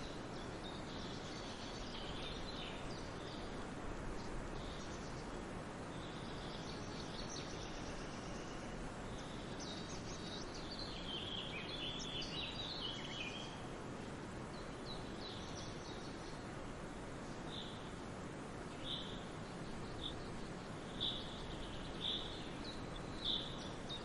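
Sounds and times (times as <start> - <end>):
rushing water or wind: 0.0 - 24.0
songbirds chirping and trilling: 0.0 - 24.0.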